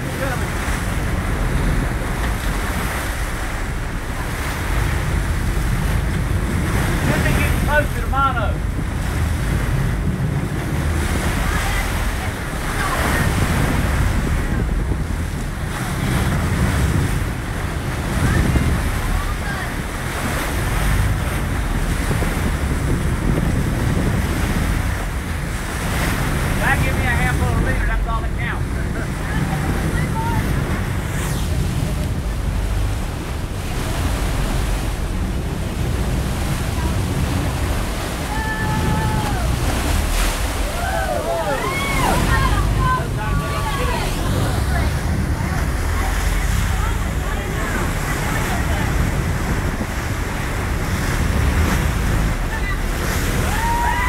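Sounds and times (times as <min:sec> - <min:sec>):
ocean water rushing past boat: 0:00.0 - 0:54.0
waves washing: 0:00.0 - 0:54.0
wind buffeting microphone: 0:00.0 - 0:54.0.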